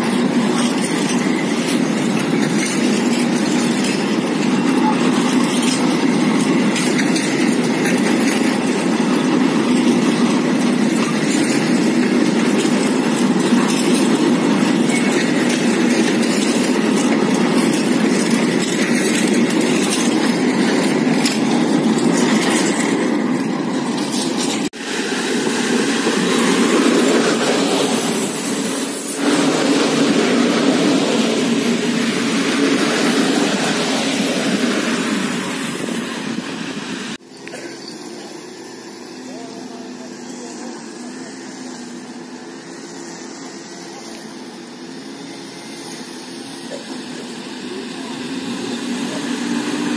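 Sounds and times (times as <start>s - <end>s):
freight train rumbling past: 0.0s - 49.9s
wheels clattering over rails: 0.0s - 49.9s.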